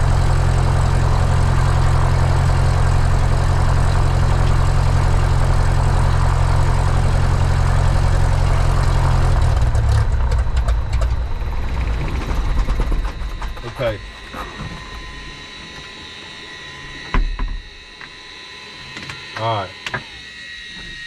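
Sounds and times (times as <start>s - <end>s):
aircraft engine and propeller idling: 0.0s - 20.1s.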